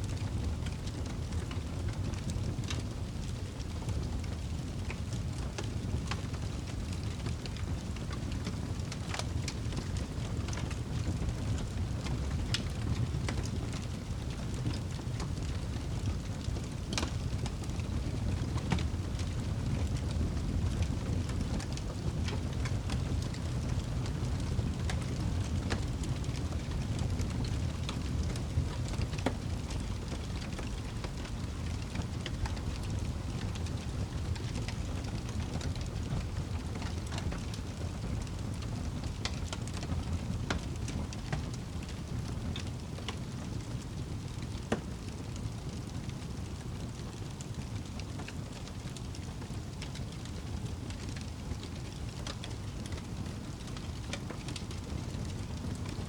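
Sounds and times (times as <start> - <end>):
fire rumbling: 0.0 - 56.0
logs crackling and popping: 0.0 - 56.0.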